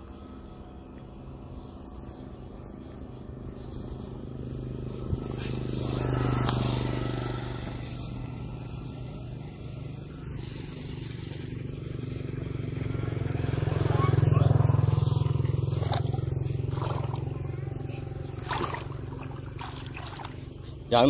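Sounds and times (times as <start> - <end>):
two-stroke engine buzzing: 0.0 - 21.0.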